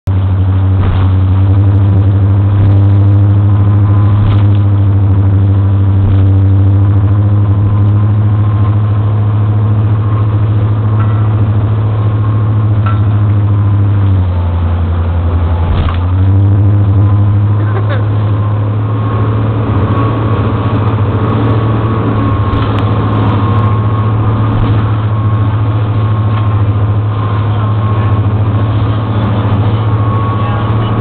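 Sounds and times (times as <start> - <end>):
boat engine running: 0.0 - 31.0
knocks and rattles of boat: 0.1 - 13.5, 14.2 - 16.3, 19.7 - 31.0.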